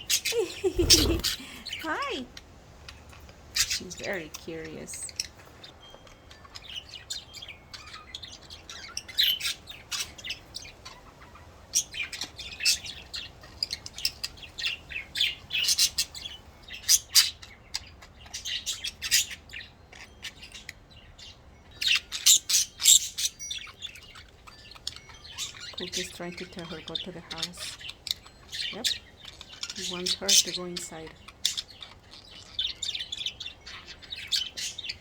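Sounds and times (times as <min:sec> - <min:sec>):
budgerigars chirping: 0:00.0 - 0:35.0.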